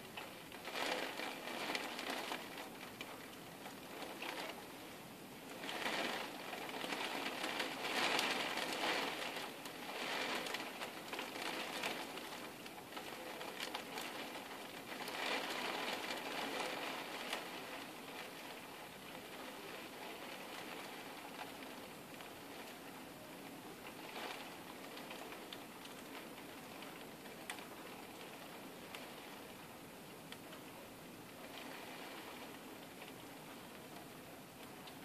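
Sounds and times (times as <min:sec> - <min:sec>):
rain on a window pane: 0:00.0 - 0:35.0.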